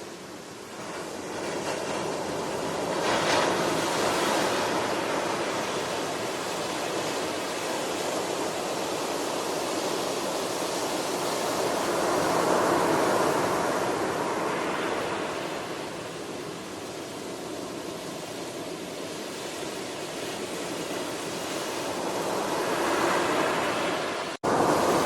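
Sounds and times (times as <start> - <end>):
ocean waves breaking: 0.6 - 25.0.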